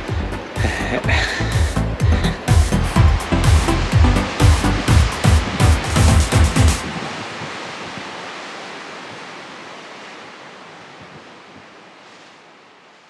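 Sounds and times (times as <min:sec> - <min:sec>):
rushing wind: 0:00.0 - 0:13.0
surf: 0:00.0 - 0:13.0.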